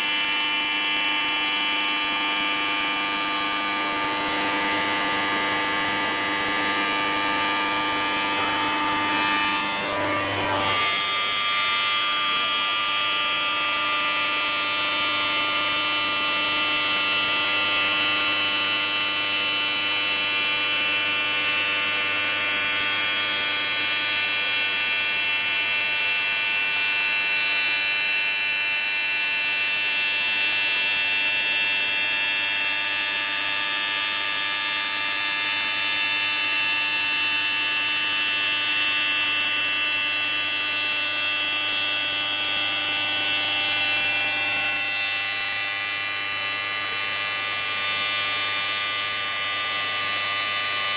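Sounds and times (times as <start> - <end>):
router spindle whine: 0.0 - 50.9.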